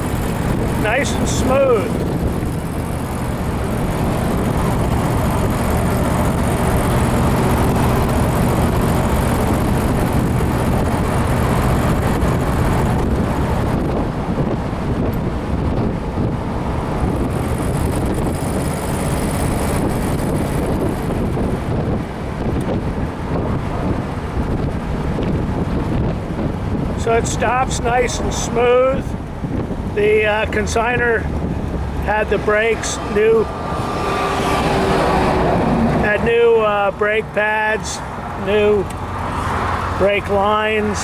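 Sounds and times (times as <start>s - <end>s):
car engine humming: 0.0s - 41.0s
road and wind noise: 0.0s - 41.0s.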